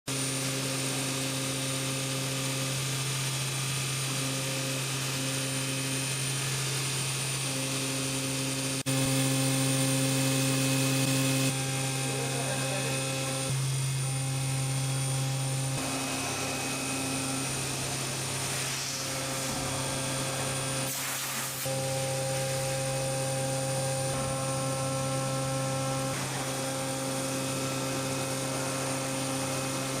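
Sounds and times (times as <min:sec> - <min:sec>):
milling machine machining metal: 0:00.1 - 0:30.0.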